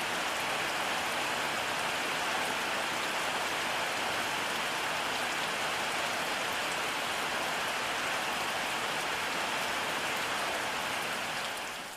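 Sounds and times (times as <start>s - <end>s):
steady rainfall: 0.0s - 11.9s.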